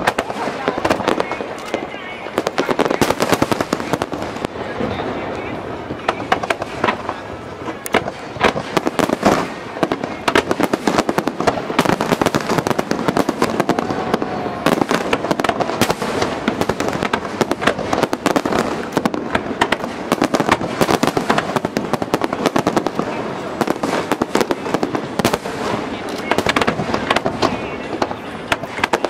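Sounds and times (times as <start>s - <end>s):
firework crackling: 0.0s - 29.0s.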